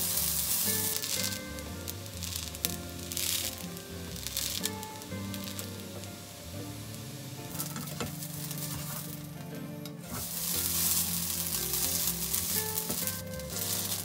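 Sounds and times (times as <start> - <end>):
food sizzling in a pan: 0.0 - 9.5, 10.1 - 14.0
background music: 0.0 - 14.0.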